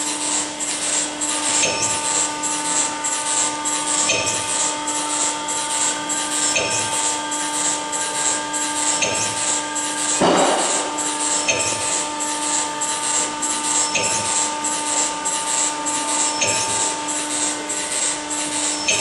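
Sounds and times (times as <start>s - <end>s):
machine electric hum: 0.0s - 19.0s.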